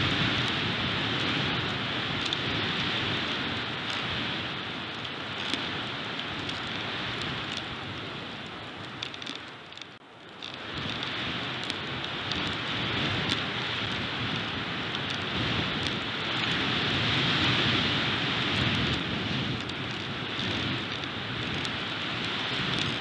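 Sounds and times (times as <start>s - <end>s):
strong wind on microphone: 0.0s - 9.6s, 10.4s - 23.0s
faint ticks: 0.0s - 17.8s, 18.5s - 23.0s.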